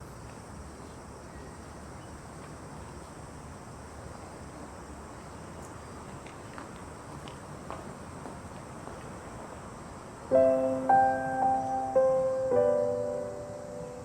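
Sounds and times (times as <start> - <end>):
low rumbling hiss: 0.0 - 14.0.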